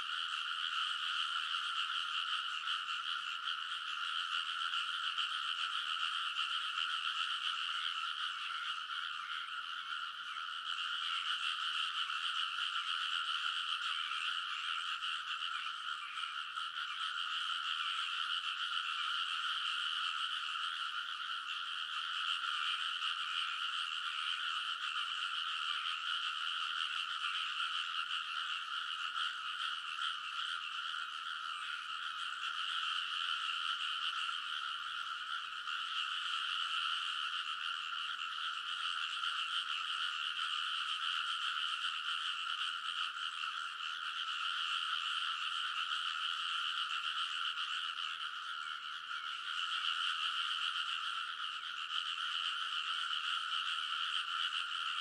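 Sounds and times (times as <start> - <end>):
chorus of frogs croaking: 0.0 - 55.0.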